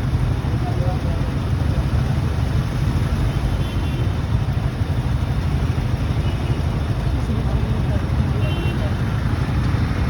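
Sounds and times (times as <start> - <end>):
motorcycle engine: 0.0 - 10.0
road noise: 0.0 - 10.0.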